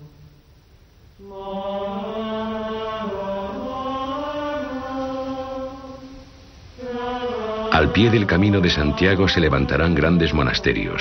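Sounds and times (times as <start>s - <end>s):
monophonic plainchant singing: 1.1s - 11.0s.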